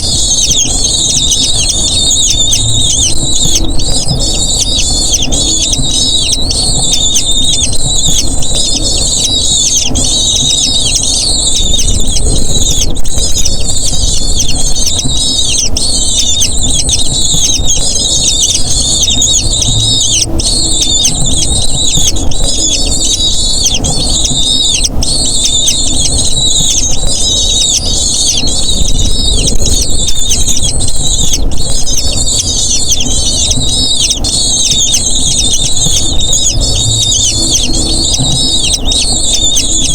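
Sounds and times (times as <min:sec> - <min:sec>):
eagle chicks squealing: 0:00.0 - 0:39.9.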